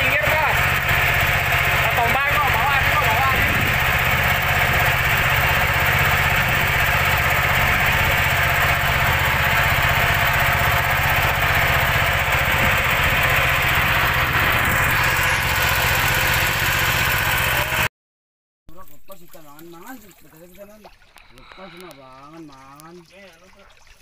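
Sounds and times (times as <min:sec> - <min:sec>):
boat engine droning: 0:00.0 - 0:17.9, 0:19.1 - 0:22.6.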